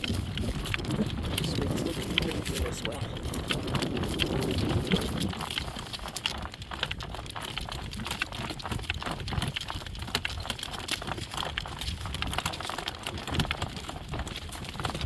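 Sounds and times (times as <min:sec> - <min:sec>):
horse hooves clip-clopping: 0:00.0 - 0:15.0
wind rumble on microphone: 0:00.0 - 0:15.0.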